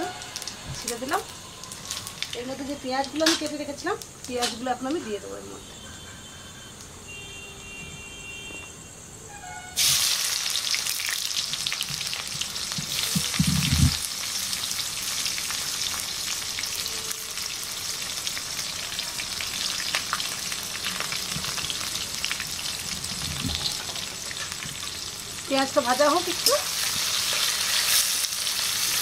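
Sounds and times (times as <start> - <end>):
onions sizzling in hot oil: 0.0 - 5.5, 9.8 - 29.0.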